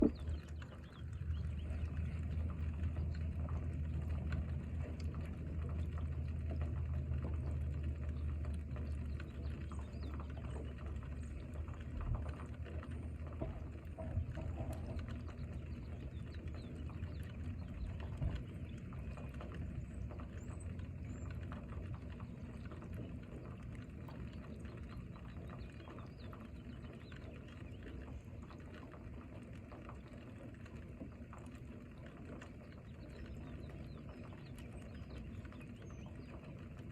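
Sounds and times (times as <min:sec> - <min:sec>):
rain patter: 0:00.0 - 0:36.9.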